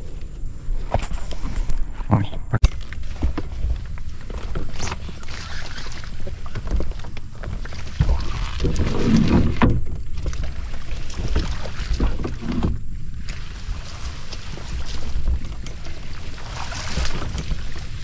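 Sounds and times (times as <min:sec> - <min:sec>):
low wind rumble on microphone: 0:00.0 - 0:18.0
plants scraping along boat hull: 0:00.0 - 0:18.0
water sloshing around legs: 0:02.7 - 0:18.0.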